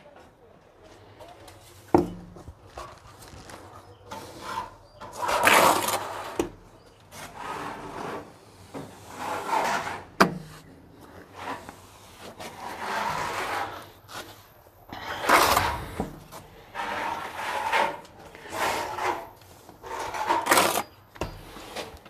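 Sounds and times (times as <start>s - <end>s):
trowel scraping adhesive on wall: 4.1s - 22.0s.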